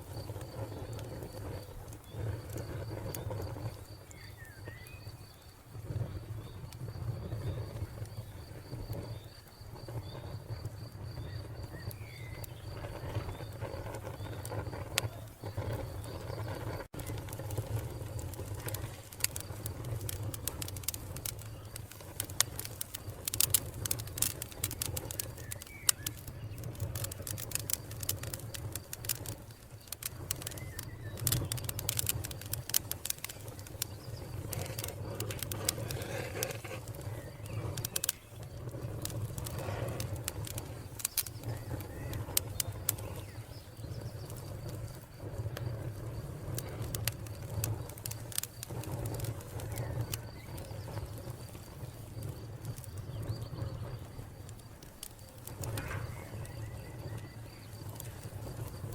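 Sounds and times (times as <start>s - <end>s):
cricket chirping: 0.0s - 58.9s
wood fire crackling and popping: 0.0s - 58.9s.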